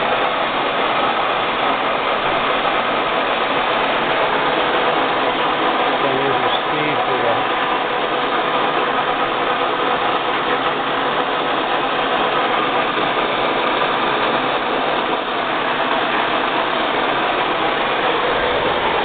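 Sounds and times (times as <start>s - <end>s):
lathe running: 0.0s - 19.0s.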